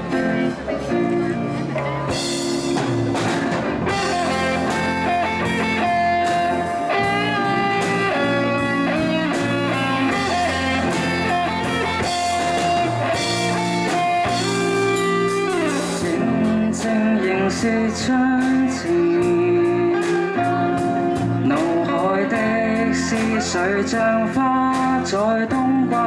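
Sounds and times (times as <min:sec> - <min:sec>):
bass: 0:00.0 - 0:26.0
guitar melody: 0:00.0 - 0:26.0
steady drum beat: 0:01.9 - 0:23.3.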